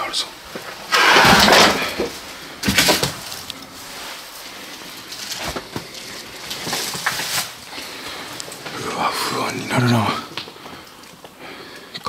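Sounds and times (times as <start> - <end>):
footsteps crunching over debris: 0.4 - 11.4.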